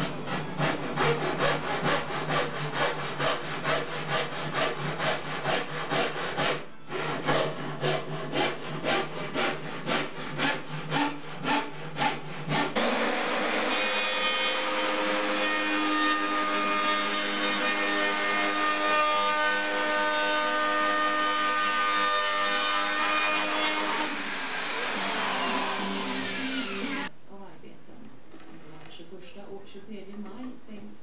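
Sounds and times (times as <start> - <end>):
handsaw cutting plywood: 0.0 - 27.1.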